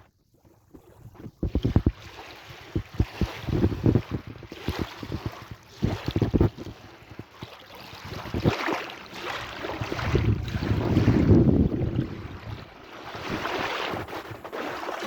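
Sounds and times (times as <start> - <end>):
wind buffeting microphone: 1.0 - 14.8
sea waves washing: 1.8 - 15.0.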